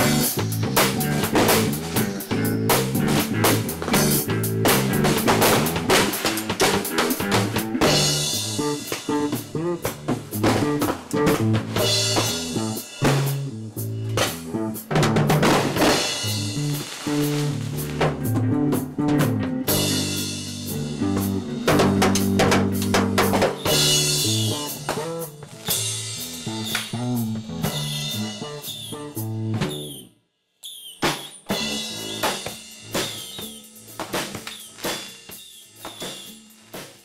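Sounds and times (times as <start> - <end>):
rock band music: 0.0 - 30.1, 31.4 - 37.0.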